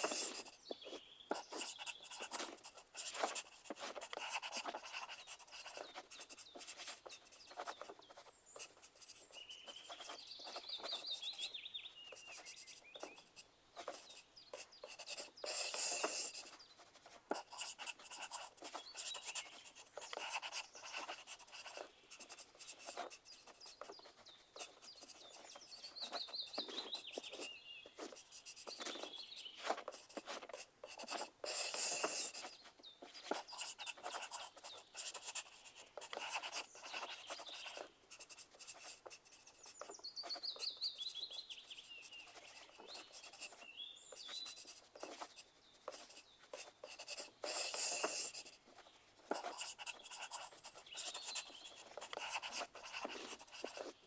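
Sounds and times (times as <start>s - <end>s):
pencil scratching on paper: 0.0s - 54.0s.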